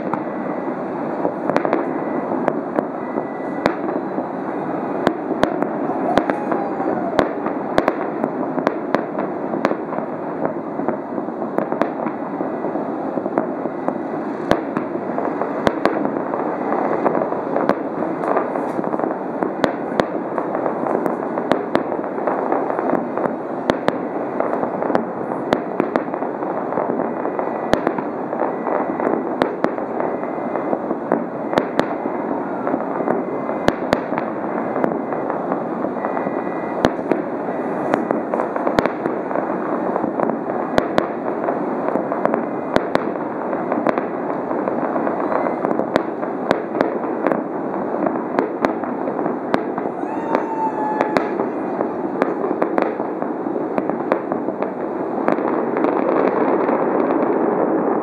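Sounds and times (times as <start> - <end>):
fireworks bangs: 0.0 - 58.0
steady background noise: 0.0 - 58.0.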